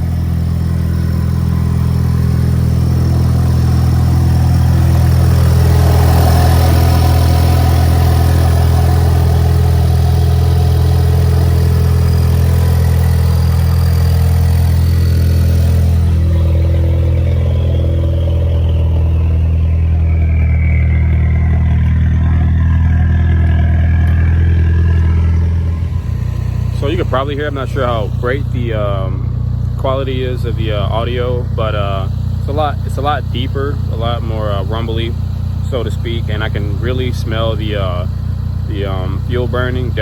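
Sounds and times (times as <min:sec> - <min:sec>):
car engine idling rumbly exhaust: 0:00.0 - 0:40.0.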